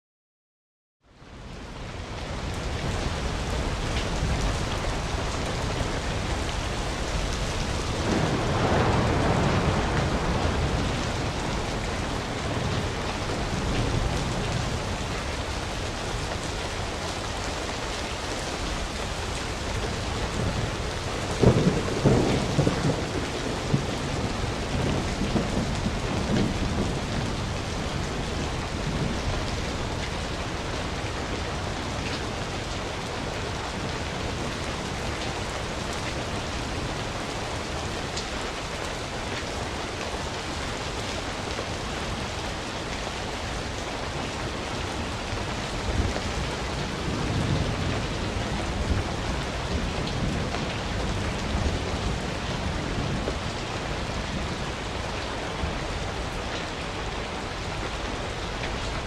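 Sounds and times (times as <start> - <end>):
heavy rain: 1.1 - 59.0
thunder rumble: 2.3 - 38.8, 41.6 - 54.9.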